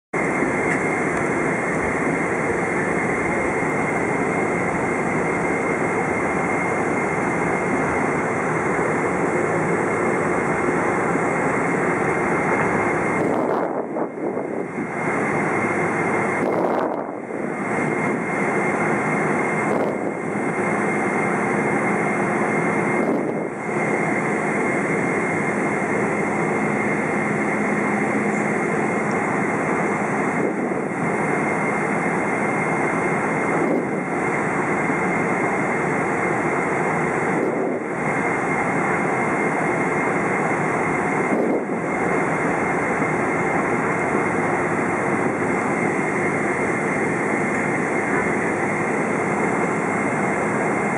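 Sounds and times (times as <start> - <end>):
jet engine rush in cabin: 0.1 - 50.9
thin steady engine whine: 0.1 - 50.9.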